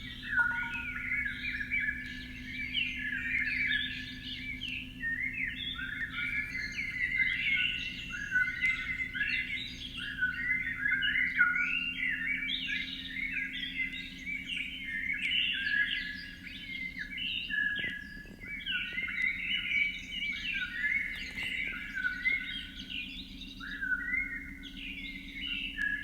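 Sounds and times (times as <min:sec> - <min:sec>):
faint low hum: 0:00.0 - 0:26.0
small birds chirping: 0:00.0 - 0:26.0.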